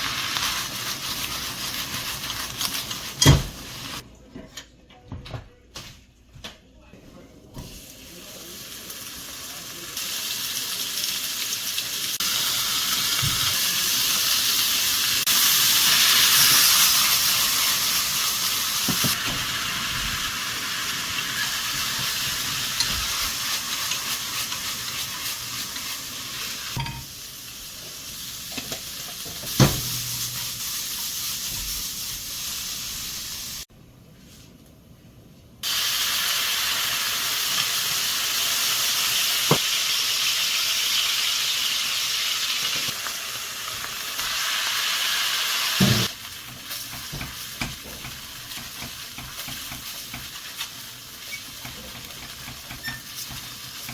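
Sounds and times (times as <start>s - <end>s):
food sizzling in a frying pan: 0.0s - 4.0s, 7.6s - 33.7s, 35.6s - 53.9s.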